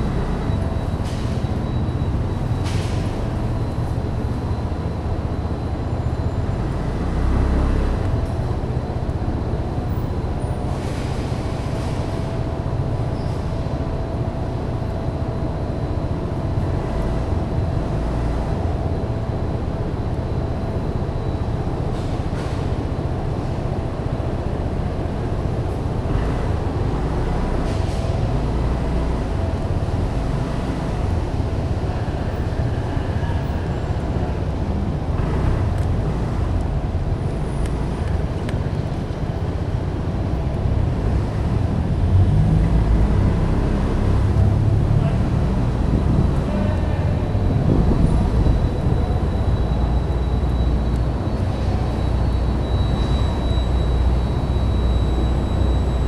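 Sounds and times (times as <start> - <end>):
echoing traffic rumble: 0.0 - 56.0.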